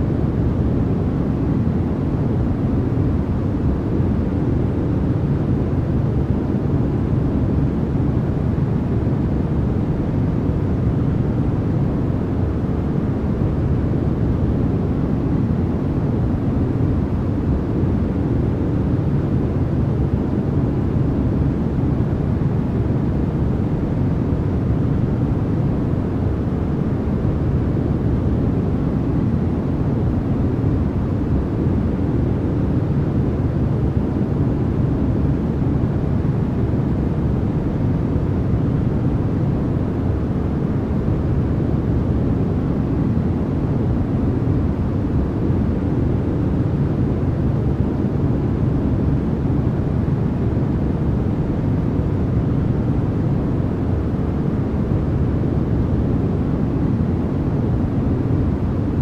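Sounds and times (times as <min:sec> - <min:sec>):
deep white noise: 0:00.0 - 0:59.0.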